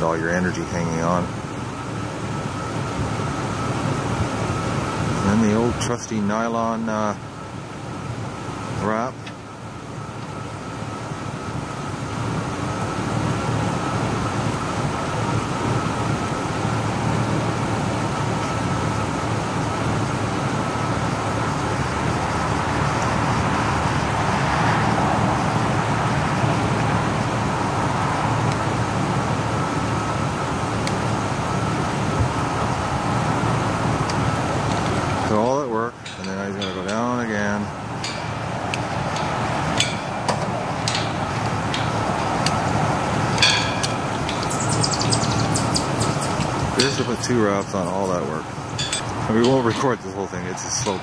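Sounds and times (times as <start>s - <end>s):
steady outdoor rumble and hiss: 0.0s - 51.0s.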